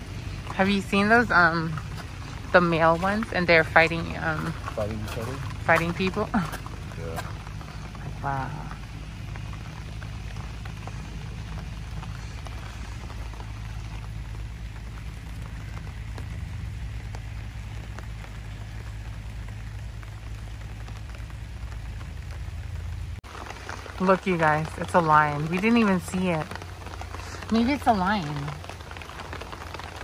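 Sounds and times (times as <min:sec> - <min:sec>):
low steady rumble: 0:00.0 - 0:30.0
rain drops ticking: 0:00.0 - 0:30.0.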